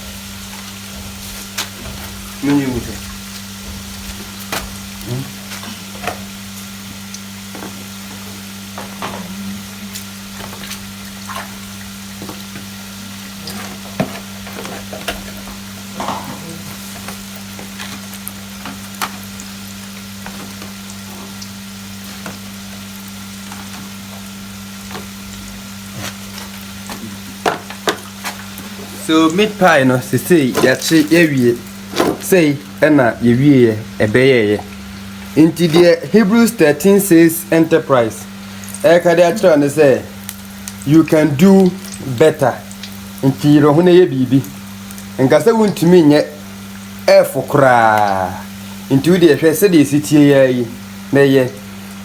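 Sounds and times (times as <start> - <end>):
oil sizzling: 0.0 - 52.0.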